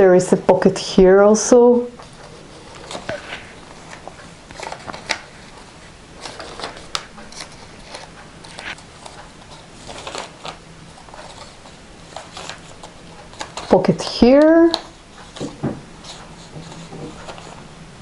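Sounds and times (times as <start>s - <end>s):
paper pages rustling: 1.9s - 17.7s.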